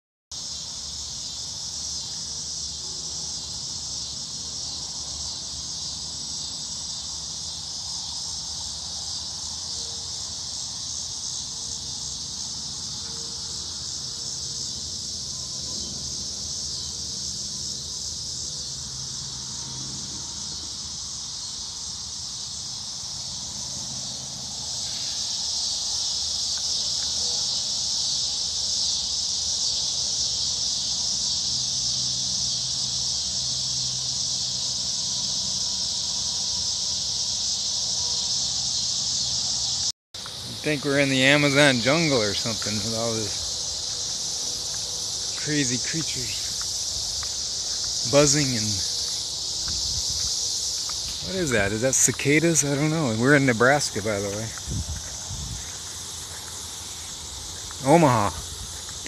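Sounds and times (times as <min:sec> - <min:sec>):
cicadas and crickets buzzing: 0:00.3 - 0:59.0.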